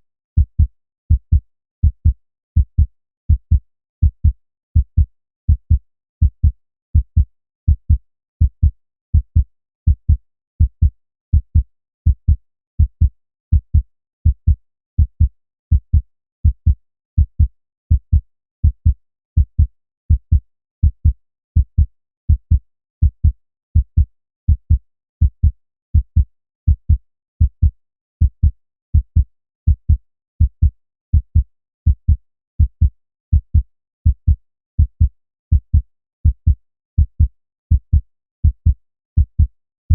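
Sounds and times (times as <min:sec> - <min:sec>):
human heartbeat: 0:00.4 - 0:39.9.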